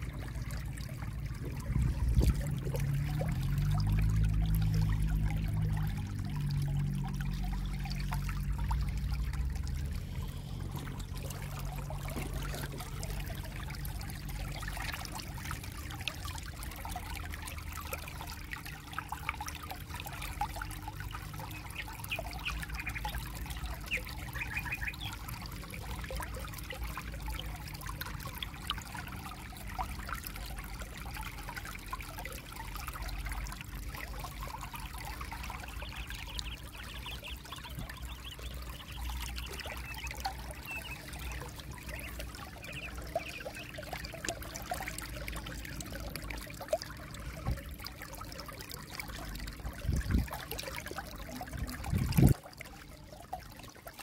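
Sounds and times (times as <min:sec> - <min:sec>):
creek water babbling over pebbles: 0:00.0 - 0:54.0.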